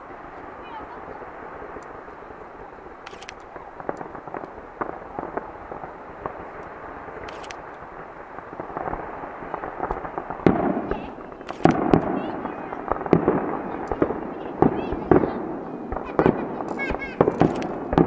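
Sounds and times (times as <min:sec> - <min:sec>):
fireworks crackling pops: 0:00.0 - 0:18.0
fireworks heavy bangs: 0:00.0 - 0:18.0.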